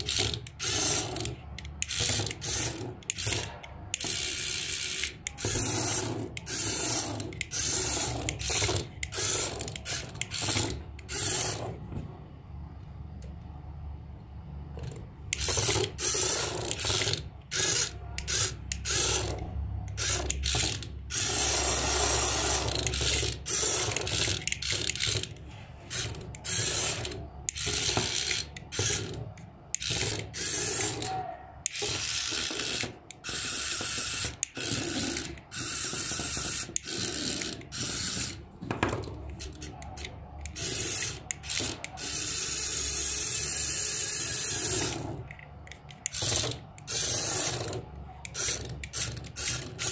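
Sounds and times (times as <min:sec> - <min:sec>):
toy electric motor and gearbox: 0:00.0 - 0:11.9, 0:14.8 - 0:49.9.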